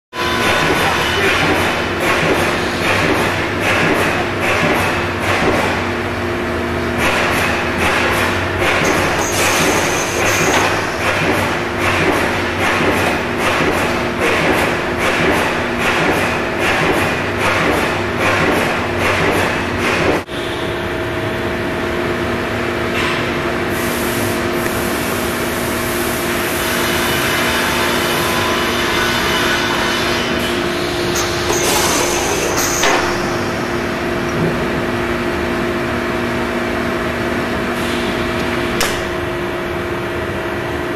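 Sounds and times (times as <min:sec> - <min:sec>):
machine hum: 0:00.1 - 0:40.9.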